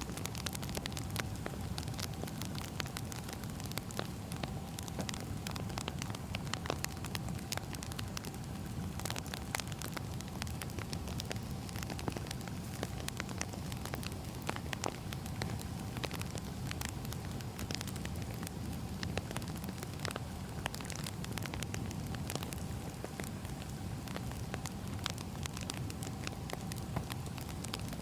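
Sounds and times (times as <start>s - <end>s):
burning logs crackling and popping: 0.0s - 28.0s
fire low rumble: 0.0s - 28.0s.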